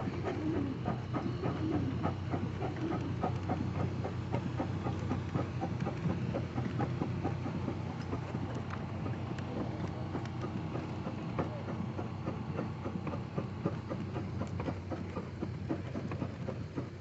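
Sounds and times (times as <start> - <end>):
old engine running with knocks: 0.0 - 17.0.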